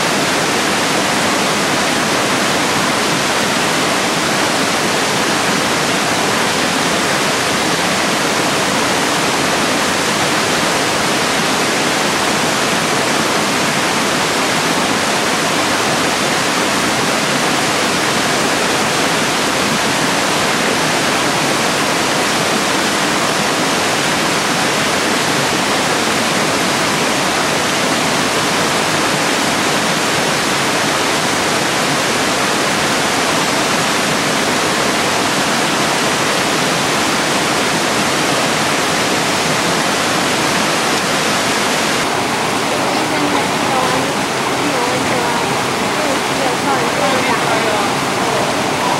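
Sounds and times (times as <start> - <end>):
small waterfall rushing: 0.0 - 48.9.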